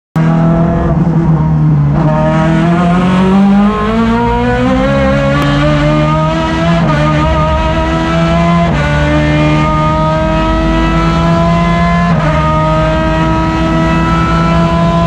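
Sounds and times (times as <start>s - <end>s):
race car engine revving: 0.2s - 15.0s.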